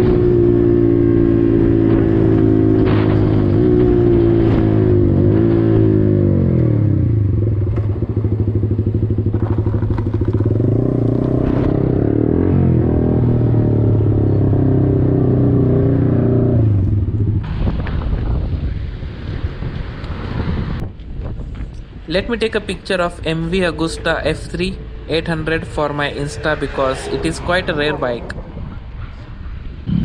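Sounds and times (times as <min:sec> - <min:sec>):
motorcycle engine slowing and idling: 0:00.0 - 0:30.0.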